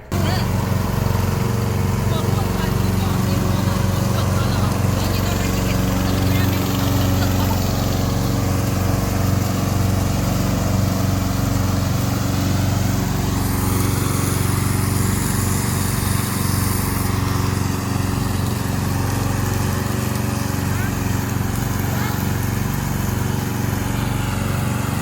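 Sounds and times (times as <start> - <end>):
petrol engine running steadily: 0.0 - 25.0.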